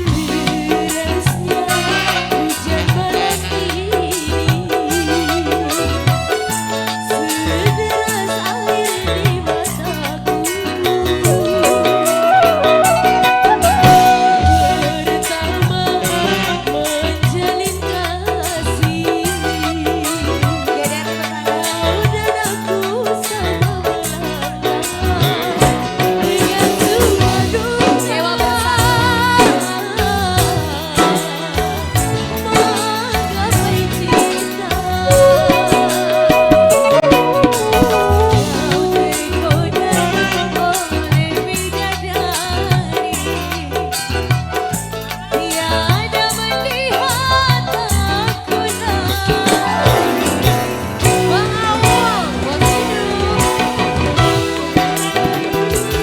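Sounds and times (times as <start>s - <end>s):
pop song with drum beat: 0.0s - 56.0s.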